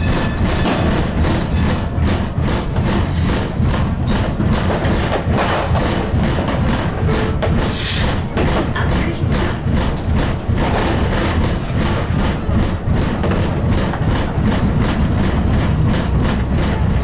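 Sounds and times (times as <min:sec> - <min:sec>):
music with thumping beat: 0:00.0 - 0:17.0.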